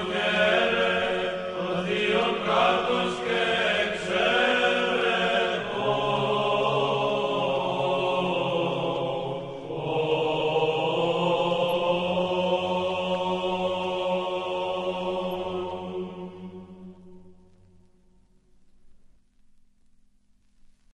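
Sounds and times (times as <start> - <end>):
choir chanting held notes: 0.0 - 17.6.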